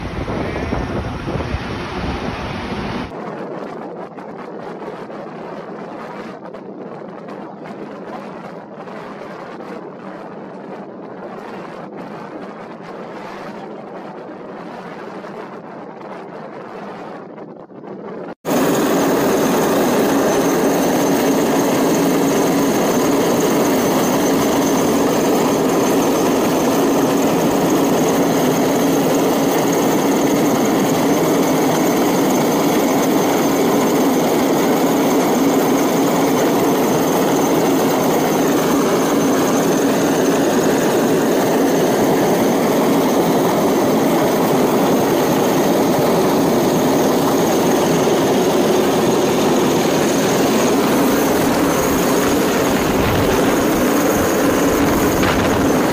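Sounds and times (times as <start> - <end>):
helicopter rotor and engine noise: 0.0 - 55.9.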